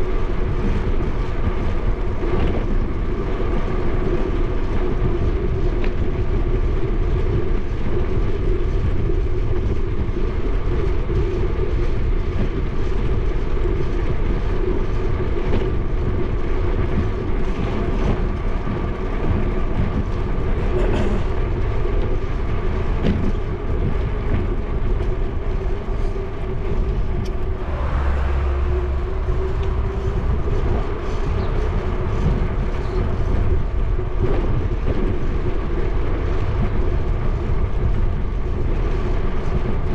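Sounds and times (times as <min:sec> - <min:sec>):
bicycle rolling hum: 0:00.0 - 0:39.9
wind rumble: 0:00.0 - 0:39.9.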